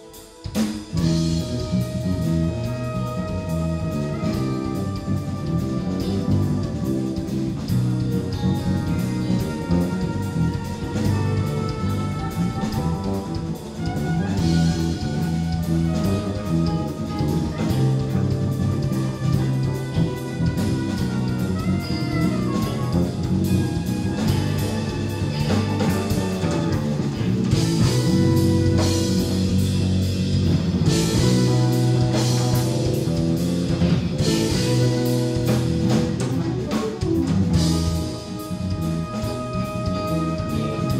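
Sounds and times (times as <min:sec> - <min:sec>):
drum kit: 0:00.0 - 0:40.9
electric guitar: 0:00.0 - 0:40.9
keyboards: 0:00.0 - 0:40.9
soprano saxophone: 0:00.0 - 0:40.9
electric bass: 0:00.7 - 0:40.9.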